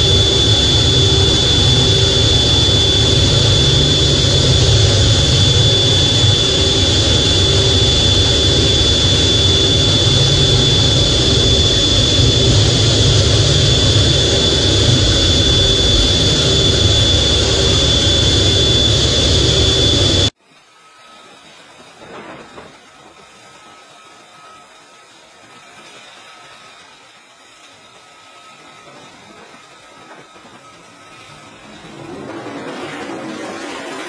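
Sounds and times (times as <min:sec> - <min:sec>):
jet engines running: 0:00.0 - 0:20.4, 0:21.1 - 0:34.0.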